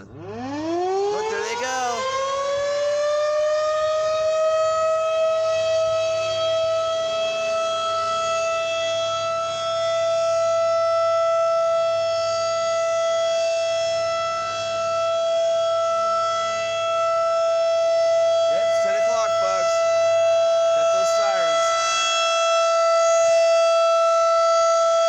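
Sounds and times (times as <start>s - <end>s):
tornado sirens: 0.0s - 25.0s.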